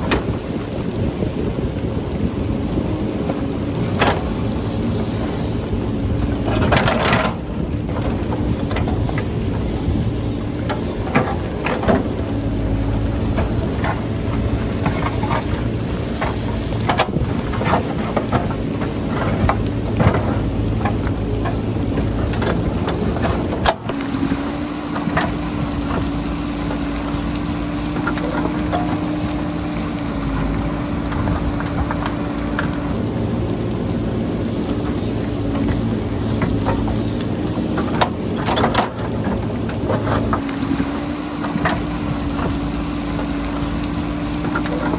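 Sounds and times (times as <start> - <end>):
diesel engine under load: 0.0 - 44.9
wind noise: 0.0 - 44.9.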